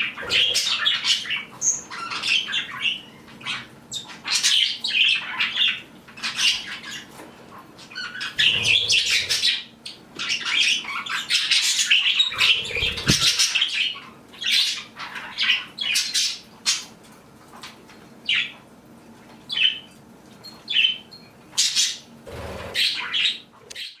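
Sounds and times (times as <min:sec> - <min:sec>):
budgies chirping and squawking: 0:00.0 - 0:16.9, 0:20.7 - 0:24.0.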